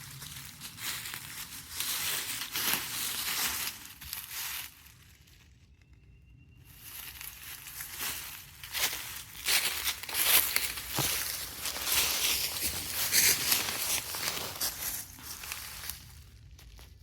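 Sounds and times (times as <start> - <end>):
footsteps crunching dry leaves: 0.0 - 5.6, 6.6 - 17.0.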